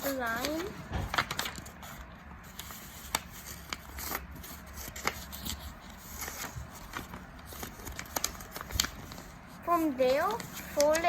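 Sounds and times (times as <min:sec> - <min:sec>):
paper folding and crackling: 0:00.0 - 0:11.0.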